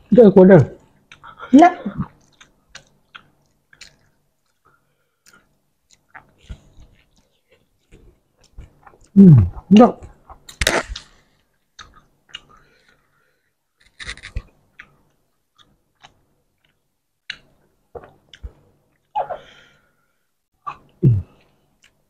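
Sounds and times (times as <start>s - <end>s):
people chewing with wet mouth sounds: 0.8s - 19.1s, 20.6s - 22.0s.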